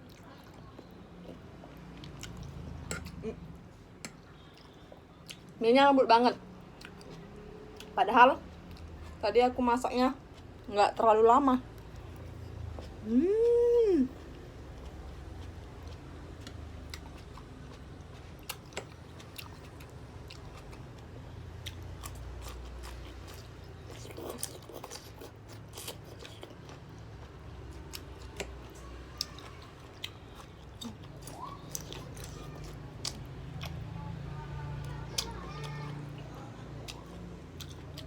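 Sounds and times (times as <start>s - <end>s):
chewing noodles: 0.0s - 5.6s, 6.4s - 38.0s.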